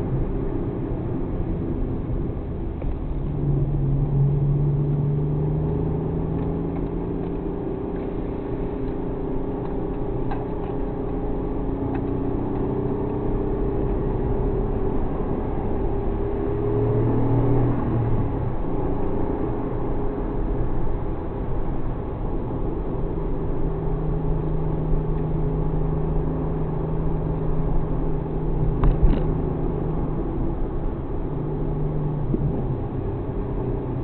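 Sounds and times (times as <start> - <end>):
car engine: 0.0 - 34.0
road rumble: 0.0 - 34.0.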